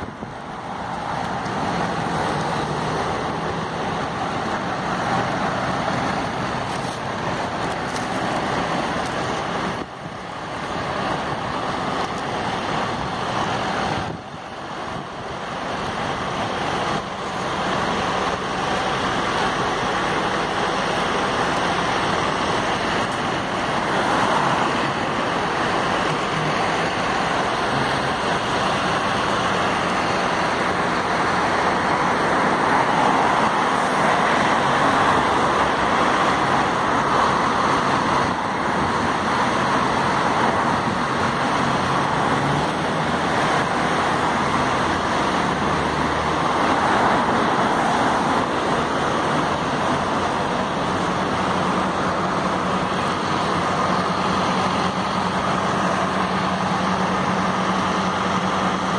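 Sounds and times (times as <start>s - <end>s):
cars passing on road: 0.0s - 58.9s
steady low engine hum: 0.0s - 58.9s.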